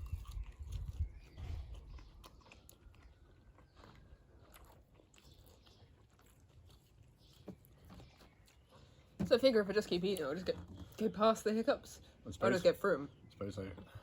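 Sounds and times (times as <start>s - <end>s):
faint chewing: 0.0s - 12.2s.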